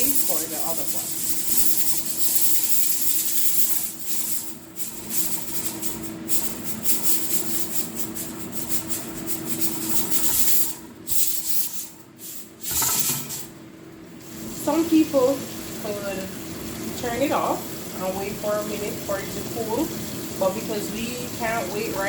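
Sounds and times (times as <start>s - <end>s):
pressure cooker hissing steam: 0.0s - 13.6s, 14.2s - 22.0s.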